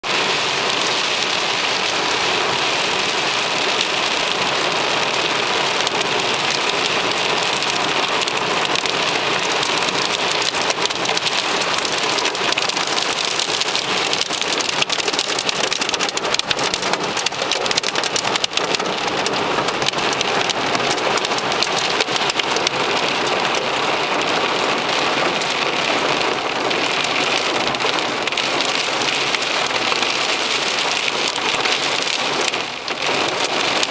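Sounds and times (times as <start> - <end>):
heavy rain on car roof: 0.0 - 33.9
hailstones ticking on car: 0.1 - 33.9.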